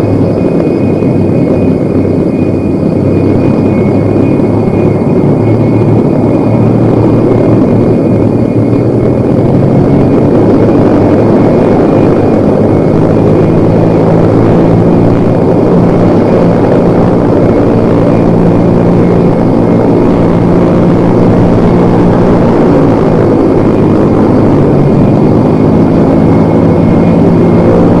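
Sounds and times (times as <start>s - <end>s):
faint high whistling: 0.0s - 28.0s
propeller aircraft engines droning: 0.0s - 28.0s.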